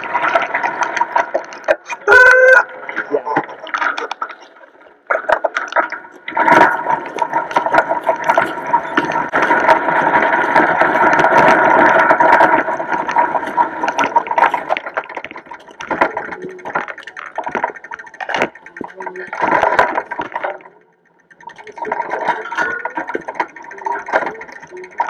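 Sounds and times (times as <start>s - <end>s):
bicycle rattling over bumps: 0.0s - 25.0s
bicycle tyres on gravel: 0.0s - 25.0s.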